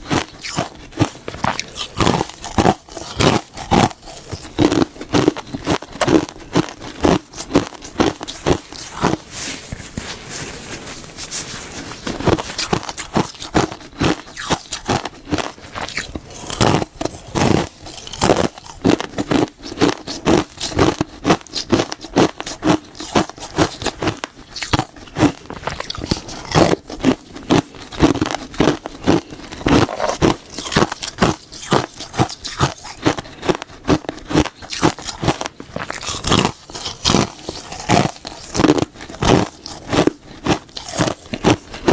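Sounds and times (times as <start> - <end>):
crunchy chewing: 0.0 - 41.9.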